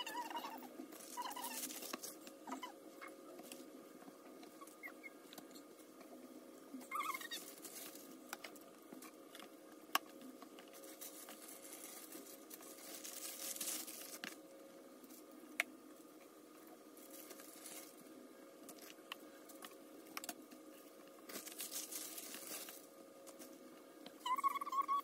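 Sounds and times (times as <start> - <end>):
plastic gloves rustling: 0.0 - 5.1, 6.8 - 24.0
faint steady hum: 0.0 - 25.0.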